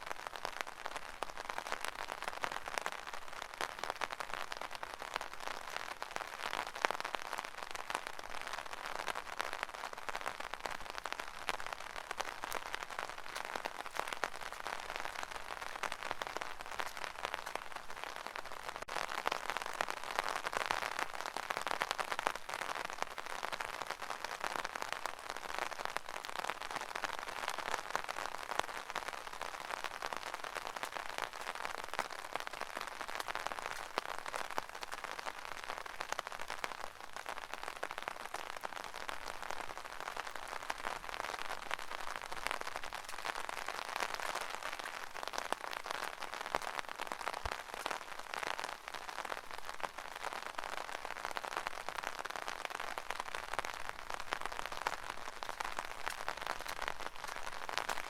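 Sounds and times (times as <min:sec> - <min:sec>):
rain pattering on an umbrella: 0:00.0 - 0:58.0.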